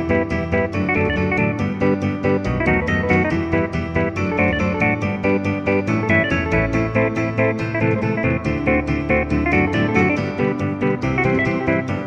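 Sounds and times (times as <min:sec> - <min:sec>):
guitar music with bass line: 0:00.0 - 0:12.0.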